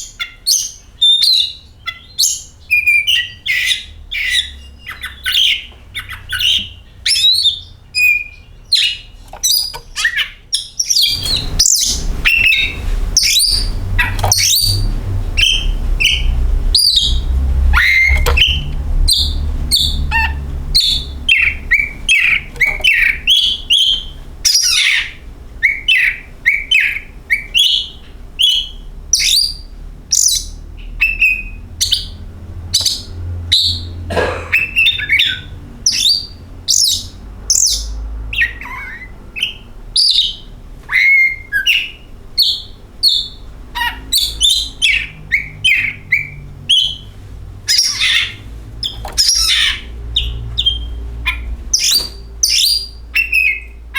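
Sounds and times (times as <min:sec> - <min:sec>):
bird singing whistled notes: 0:00.0 - 0:34.0, 0:34.6 - 0:43.4, 0:44.1 - 0:47.1, 0:47.7 - 0:53.8
steady low hum: 0:00.0 - 0:53.9.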